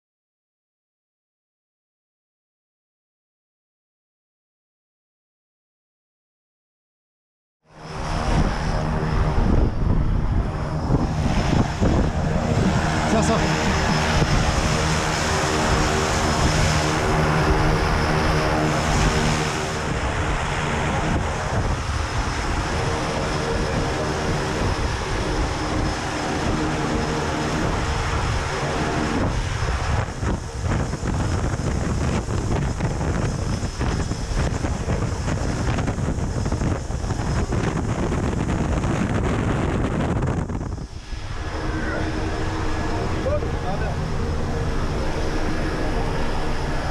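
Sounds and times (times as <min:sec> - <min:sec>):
propeller plane engine drone: 0:07.6 - 0:46.9.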